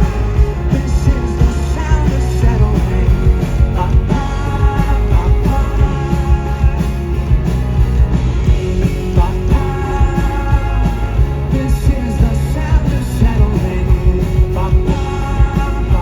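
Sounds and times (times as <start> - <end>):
live rock band playing: 0.0 - 16.0
vocals: 0.0 - 16.0.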